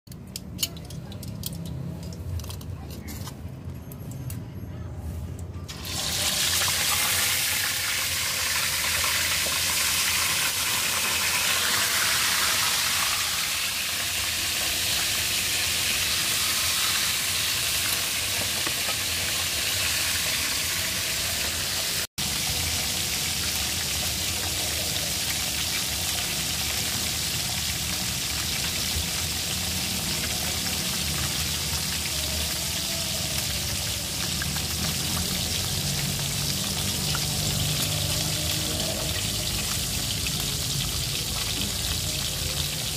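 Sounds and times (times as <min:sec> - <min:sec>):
fish frying in hot oil: 0:05.7 - 0:42.9.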